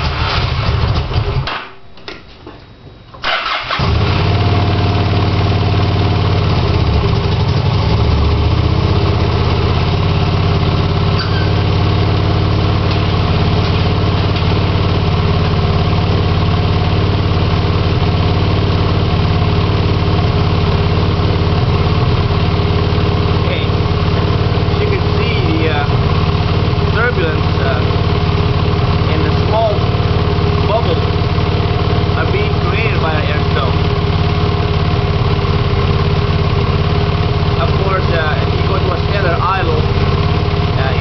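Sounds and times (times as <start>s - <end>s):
motorcycle engine starting and idling: 0.0s - 1.6s, 3.1s - 41.0s.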